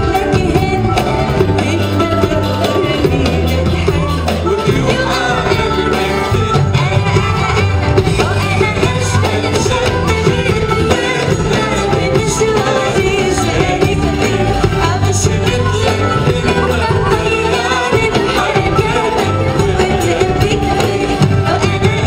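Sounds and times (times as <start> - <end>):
electric guitar: 0.0 - 22.0
keyboards: 0.0 - 22.0
live pop band playing: 0.0 - 22.0
woman singing into a microphone: 0.0 - 22.0.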